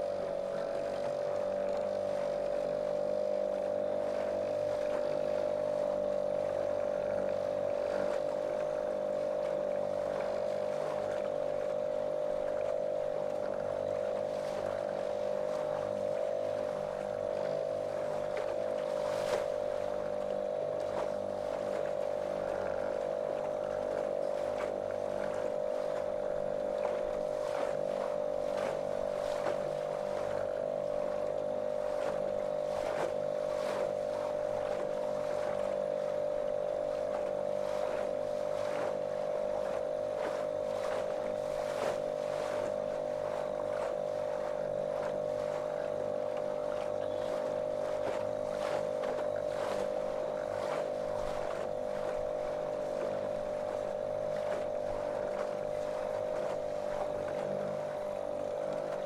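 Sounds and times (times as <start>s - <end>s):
hull slapping on water: 0.0s - 59.0s
outboard motor running: 0.0s - 59.0s.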